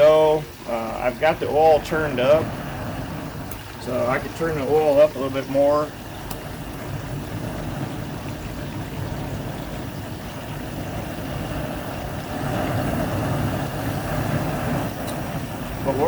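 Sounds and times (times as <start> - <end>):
gas burner roaring: 0.0 - 16.0.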